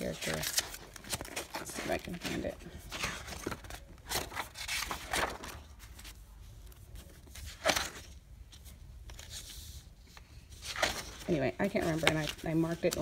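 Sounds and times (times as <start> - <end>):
pages flipping: 0.0 - 13.0.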